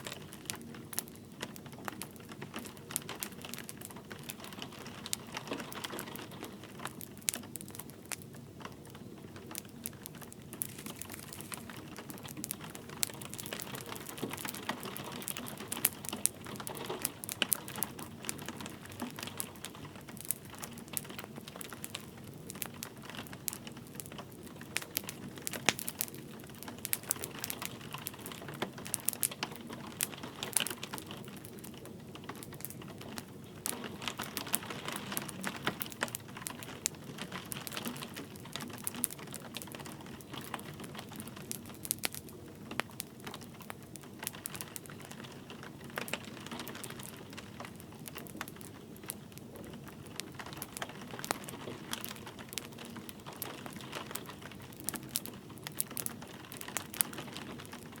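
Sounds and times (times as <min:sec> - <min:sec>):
light rain patter: 0:00.0 - 0:58.0
wood fire crackling: 0:00.0 - 0:58.0.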